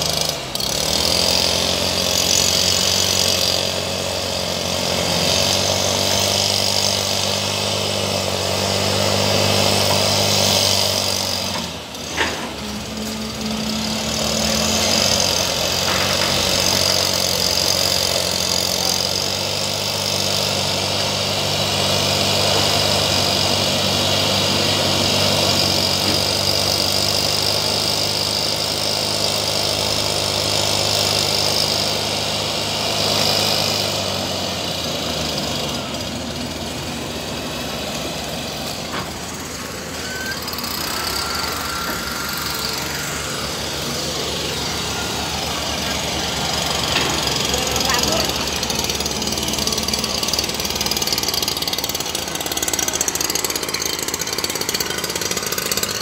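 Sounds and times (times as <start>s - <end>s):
two-stroke mist blower running: 0.0s - 56.0s.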